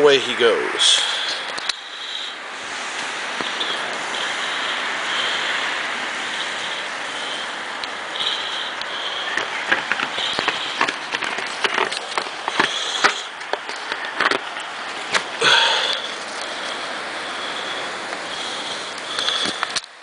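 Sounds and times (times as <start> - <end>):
blizzard wind on microphone: 0.0 - 20.0
ticks and crackles: 1.2 - 2.4, 3.0 - 5.4, 6.2 - 16.8, 18.0 - 20.0.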